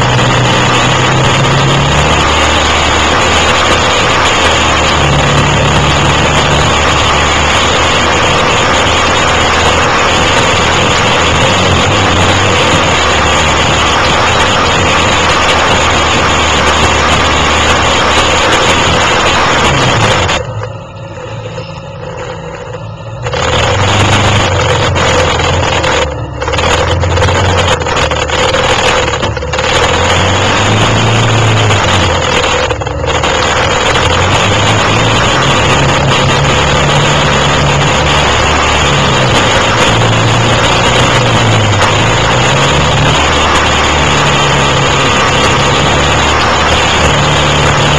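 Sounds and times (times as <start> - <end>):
heavy rushing noise: 0.0 - 47.9
quad engine revving: 0.0 - 47.9.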